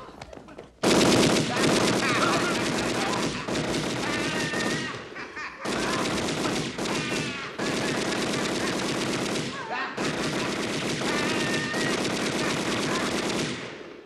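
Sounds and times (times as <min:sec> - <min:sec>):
submachine gun rapid bursts: 0:00.8 - 0:04.9, 0:05.6 - 0:13.7.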